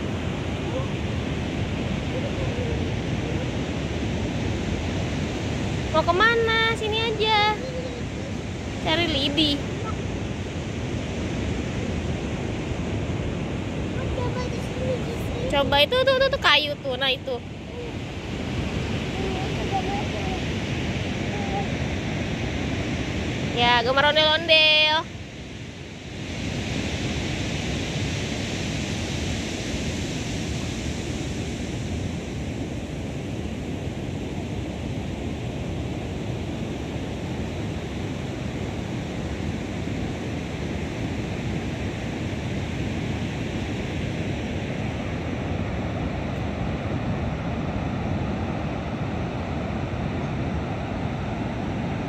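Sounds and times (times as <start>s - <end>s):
ocean surf breaking: 0.0s - 52.0s.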